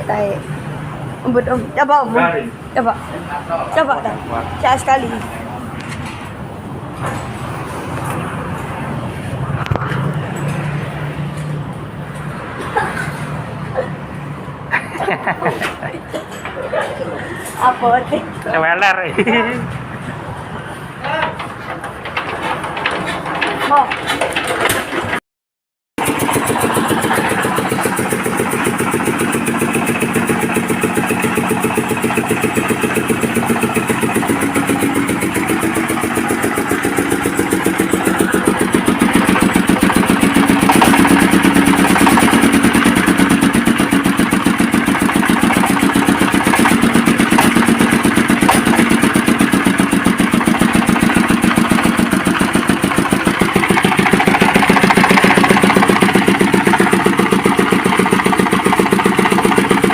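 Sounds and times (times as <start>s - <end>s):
engine generator running: 0.0s - 25.2s, 26.0s - 59.9s.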